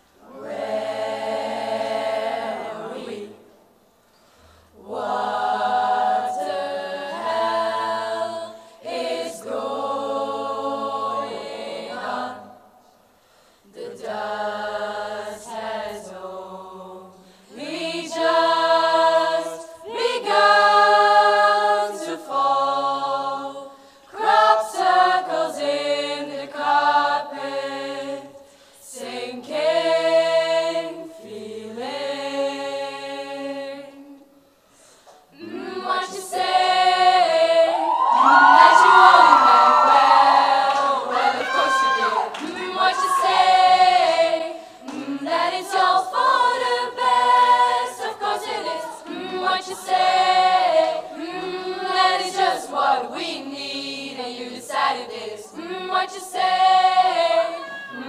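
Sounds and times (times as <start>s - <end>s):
choir singing held chords: 0.0s - 58.0s.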